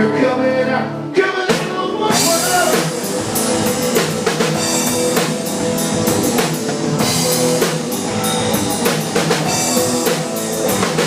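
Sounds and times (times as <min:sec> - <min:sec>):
rock band playing: 0:00.0 - 0:11.0
drum kit steady beat: 0:01.5 - 0:11.0.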